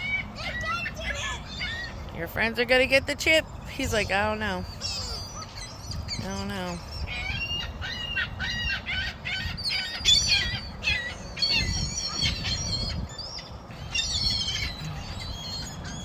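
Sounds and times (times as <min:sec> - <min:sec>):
seagulls squawking: 0:00.0 - 0:02.1, 0:03.8 - 0:16.0.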